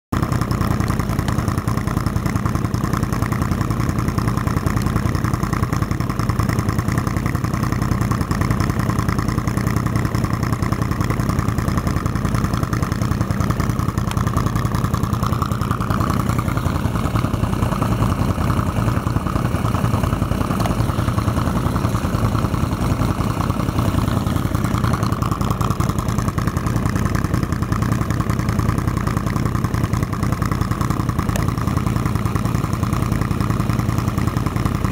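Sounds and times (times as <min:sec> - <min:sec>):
atv engine running: 0:00.1 - 0:34.9.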